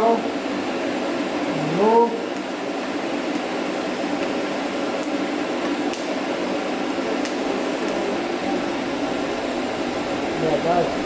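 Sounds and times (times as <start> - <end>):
welding arc buzzing hiss: 0.0 - 11.0.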